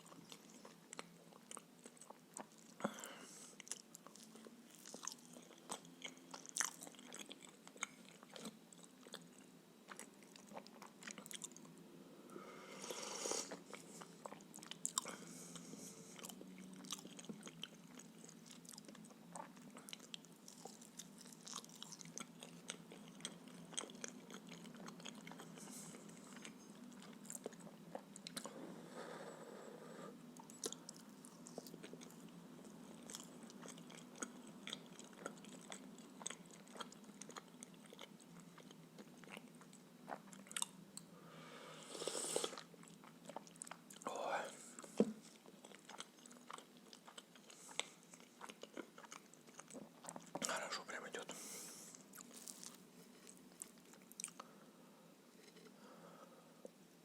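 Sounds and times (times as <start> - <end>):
close chewing with mouth clicks: 0.0 - 11.8, 13.4 - 28.6, 30.4 - 41.1, 42.3 - 54.5.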